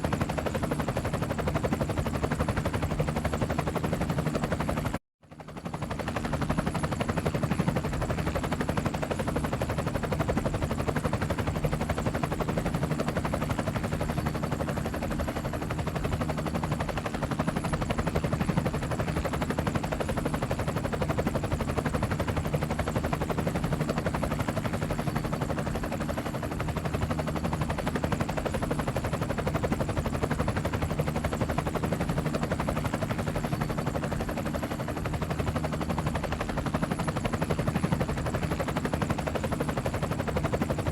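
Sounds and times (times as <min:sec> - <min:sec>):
helicopter rotor chop: 0:00.0 - 0:40.9.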